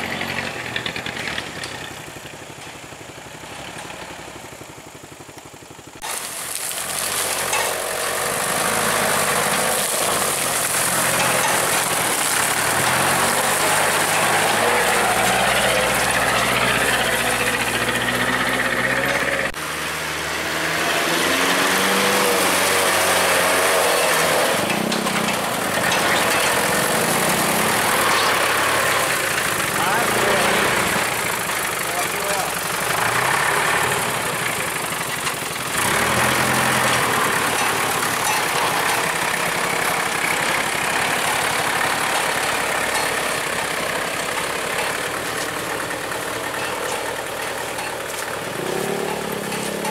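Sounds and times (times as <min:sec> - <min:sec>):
road noise hiss: 0:00.0 - 0:49.9
truck engine under load: 0:00.0 - 0:49.9.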